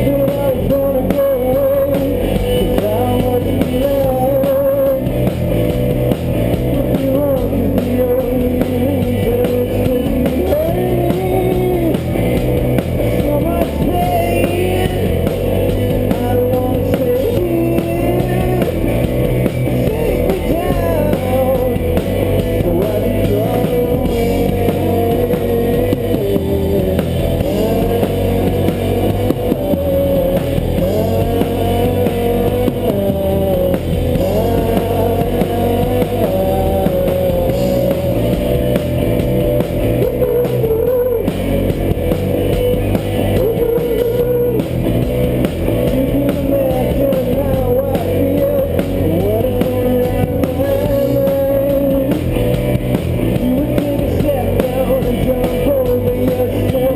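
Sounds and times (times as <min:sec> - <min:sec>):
rock band playing: 0:00.0 - 0:56.9
wavering melodic guitar: 0:00.0 - 0:56.9.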